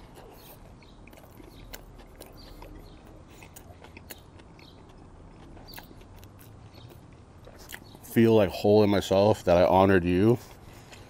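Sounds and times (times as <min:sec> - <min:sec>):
person chewing crispy food: 0:00.0 - 0:08.2, 0:10.0 - 0:11.0.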